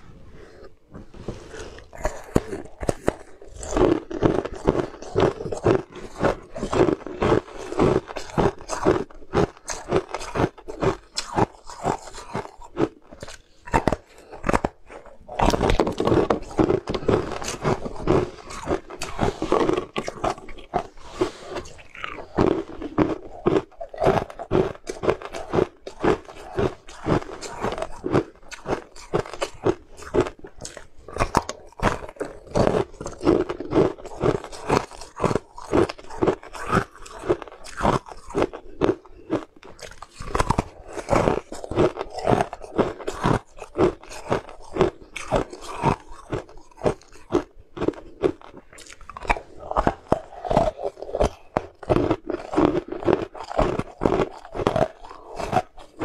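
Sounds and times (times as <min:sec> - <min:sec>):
mouth crunching candy: 0:00.4 - 0:56.0.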